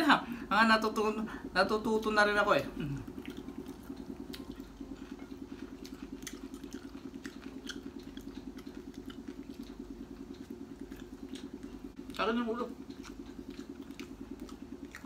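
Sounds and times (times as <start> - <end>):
low pulsing motor hum: 0.0 - 15.0
chewing: 2.7 - 15.0
eating from a plate: 2.7 - 15.0.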